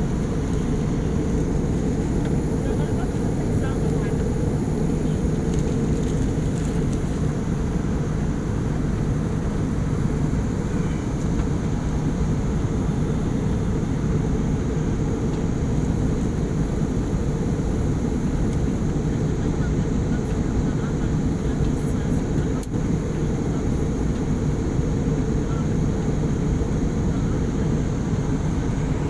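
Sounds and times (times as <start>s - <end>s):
airliner cabin roar: 0.0s - 29.0s
faint steady hum: 0.0s - 29.0s.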